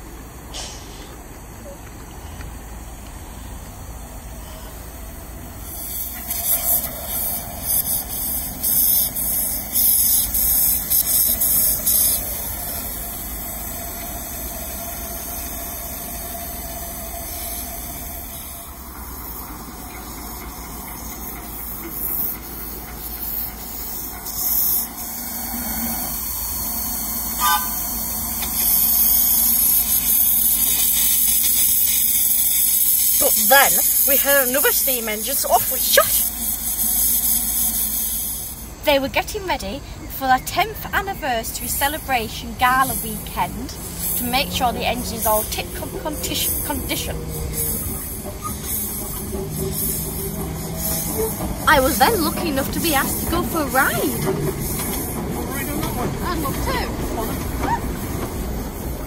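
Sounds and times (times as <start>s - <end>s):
loud steam hiss from locomotive: 0.0s - 59.0s
small train running noise: 0.0s - 59.0s
steam puffs hissing: 0.0s - 59.0s.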